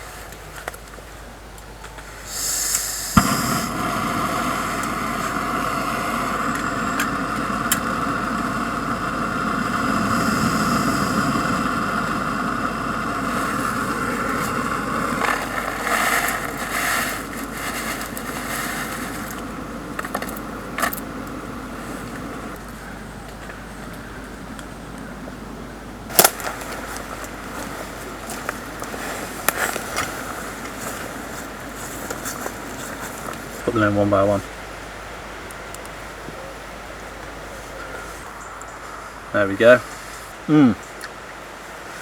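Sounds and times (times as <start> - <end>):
gas stove hissing: 2.2 - 42.0.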